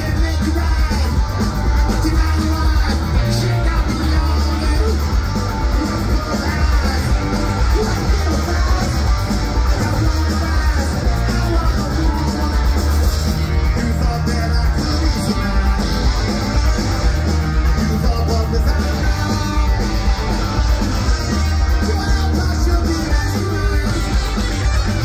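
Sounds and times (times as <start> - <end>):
garage rock band playing live: 0.0 - 25.0
person singing: 0.0 - 25.0.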